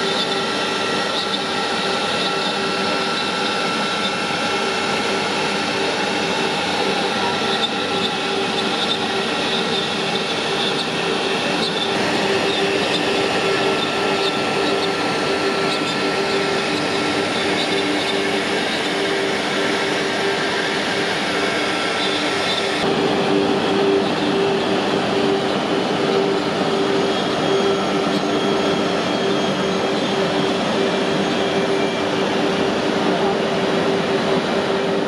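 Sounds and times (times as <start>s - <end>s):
router cutting wood: 0.0s - 35.0s
router spindle whine: 0.0s - 35.0s.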